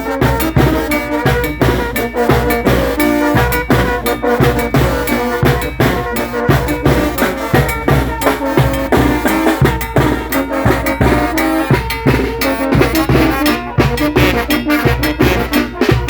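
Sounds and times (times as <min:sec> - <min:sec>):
brass band playing: 0:00.0 - 0:16.0
drum beat with bass drum: 0:00.0 - 0:16.0.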